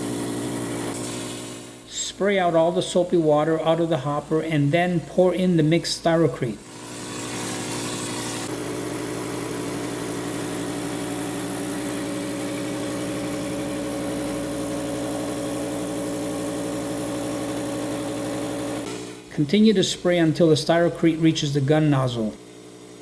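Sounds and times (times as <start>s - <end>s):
texture sprayer machine hum: 0.0s - 23.0s.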